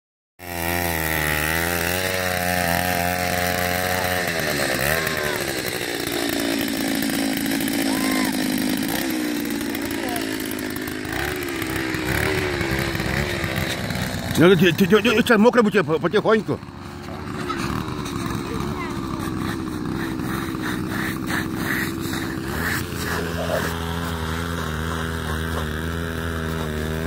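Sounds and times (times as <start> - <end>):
ice auger engine buzzing: 0.4 - 27.0.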